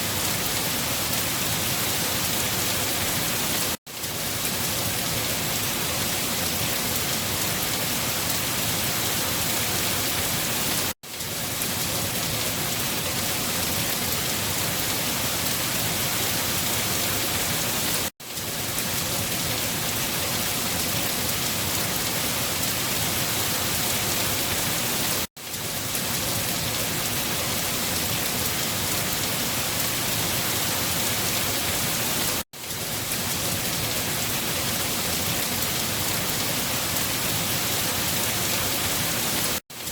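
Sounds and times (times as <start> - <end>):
steady dense rainfall: 0.0 - 39.9.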